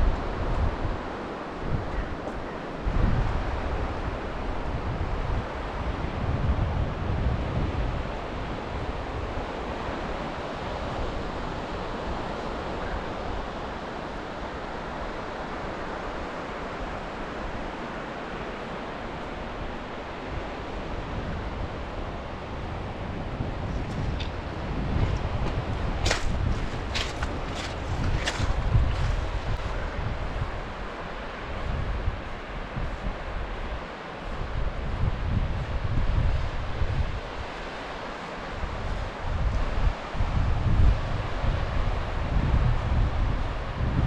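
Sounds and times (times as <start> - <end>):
sea waves washing onto shore: 0.0 - 43.8
wind buffeting microphone: 0.0 - 44.0.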